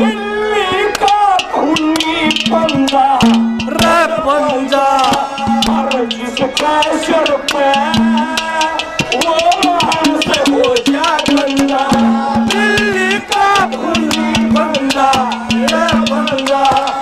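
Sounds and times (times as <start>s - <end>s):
man singing: 0.0s - 17.0s
fast drum beats: 0.7s - 17.0s.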